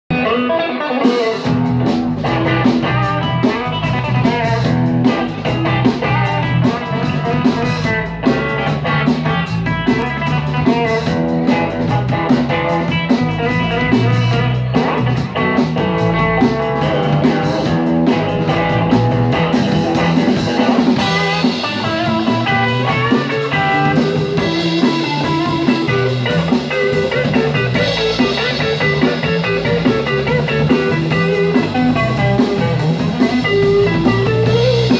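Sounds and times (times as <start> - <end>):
drums: 0.0 - 34.9
bass guitar: 0.1 - 34.9
electric guitar: 0.1 - 34.9.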